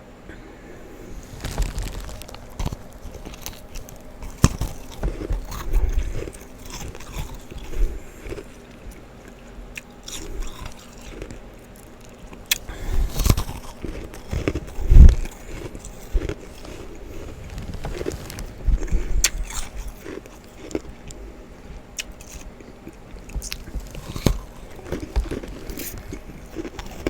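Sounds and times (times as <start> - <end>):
person crunching frost: 0.8 - 21.2, 22.0 - 27.0.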